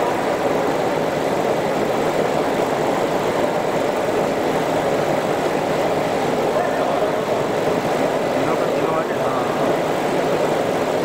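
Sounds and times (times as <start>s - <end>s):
production line machine hum: 0.0s - 11.0s.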